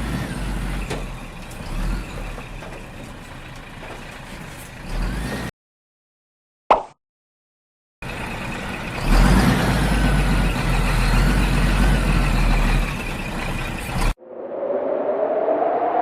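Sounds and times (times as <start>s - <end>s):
truck engine rumbling: 0.0s - 5.5s, 8.0s - 16.0s.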